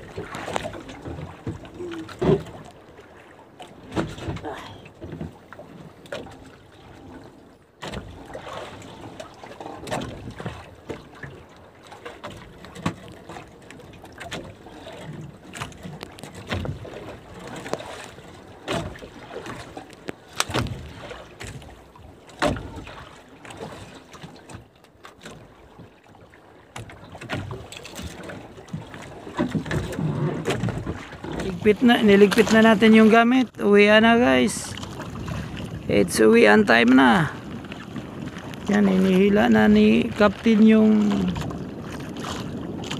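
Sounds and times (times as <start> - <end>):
wind and water wash: 0.0 - 42.9.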